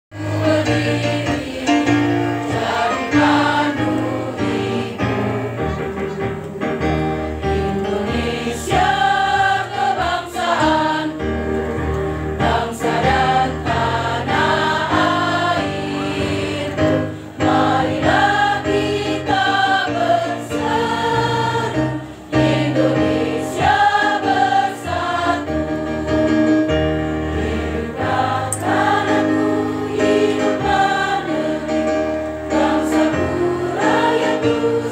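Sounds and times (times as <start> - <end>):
women's choir singing: 0.1 - 6.0, 7.4 - 34.9.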